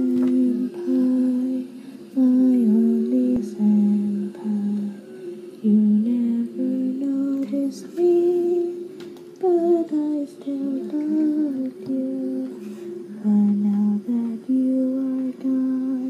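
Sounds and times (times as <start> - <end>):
girl singing slow melody: 0.0 - 16.0.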